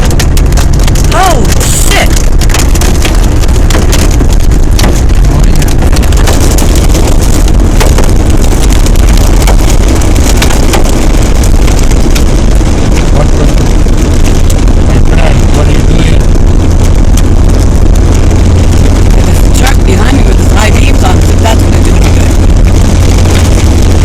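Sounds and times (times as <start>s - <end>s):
hail clicking on a car: 0.0s - 24.0s
wind and car rumble: 0.0s - 24.0s.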